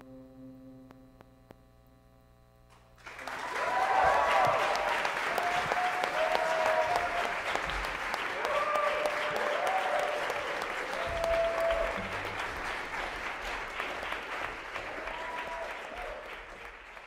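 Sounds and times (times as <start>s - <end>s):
audience applauding: 3.0s - 17.0s.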